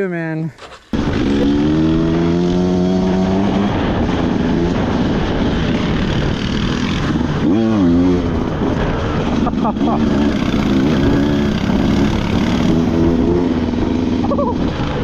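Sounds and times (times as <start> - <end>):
vehicle engine running: 0.9 - 15.0.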